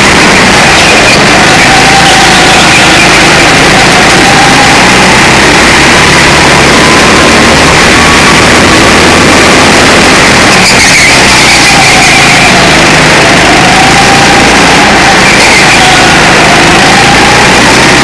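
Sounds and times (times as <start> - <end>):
go-kart engine revving: 0.0 - 18.0.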